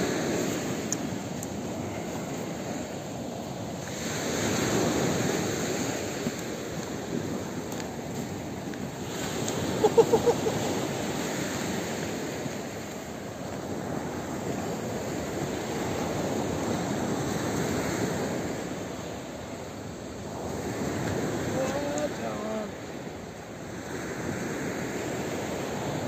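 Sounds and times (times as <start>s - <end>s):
surf washing onto beach: 0.0s - 26.0s.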